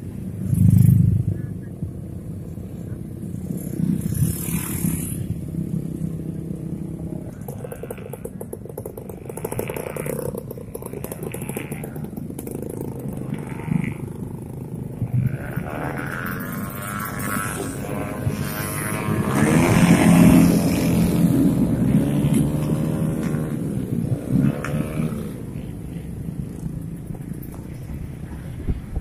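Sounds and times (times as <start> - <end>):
motorcycles passing slowly: 0.0 - 29.0.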